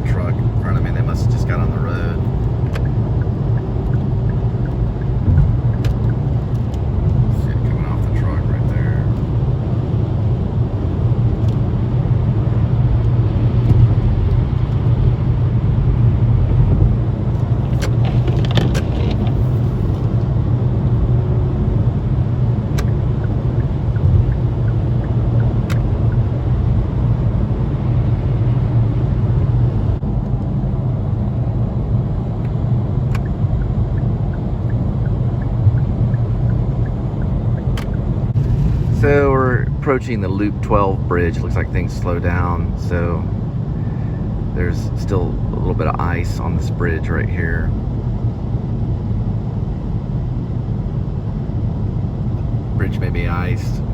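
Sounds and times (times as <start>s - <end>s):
low rumble of engine and tyres: 0.0s - 53.9s.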